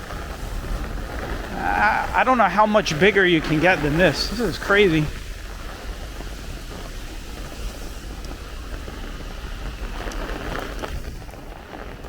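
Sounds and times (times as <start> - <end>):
heavy rain hissing: 0.0 - 12.0
wind buffeting microphone: 0.0 - 12.0.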